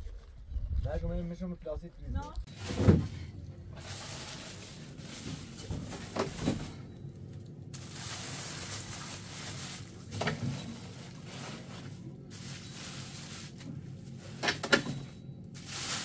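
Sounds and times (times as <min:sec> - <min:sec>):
plastic bags rustling: 0:02.5 - 0:16.0.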